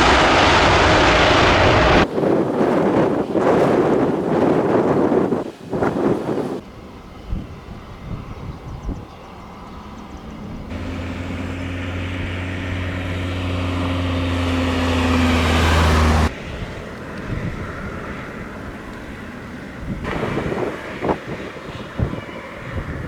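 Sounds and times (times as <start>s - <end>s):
jet airliner engines hum: 0.0s - 23.0s
wind buffeting microphone: 0.0s - 23.0s.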